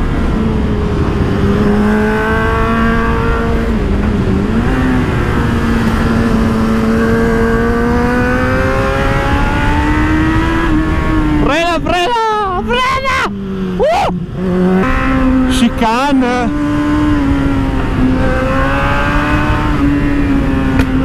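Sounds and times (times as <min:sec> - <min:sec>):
heavy wind rush: 0:00.0 - 0:21.0.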